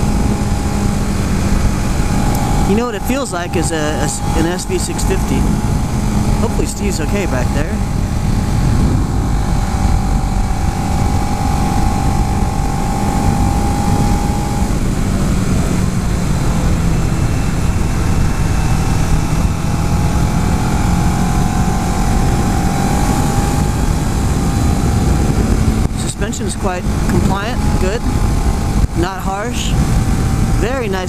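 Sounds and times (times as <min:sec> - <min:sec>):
motorcycle engine droning: 0:00.0 - 0:31.0
wind rush over microphone: 0:00.0 - 0:31.0.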